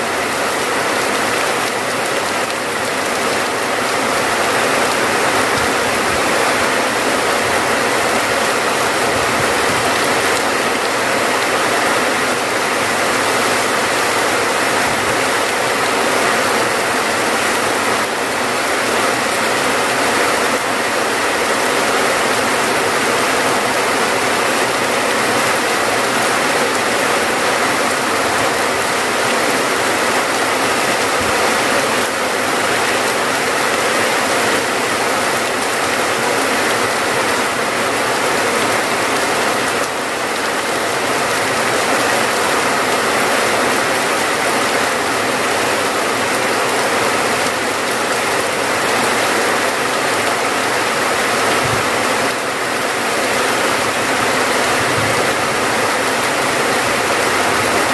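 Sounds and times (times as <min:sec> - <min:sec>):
rain falling steadily: 0:00.0 - 0:57.9.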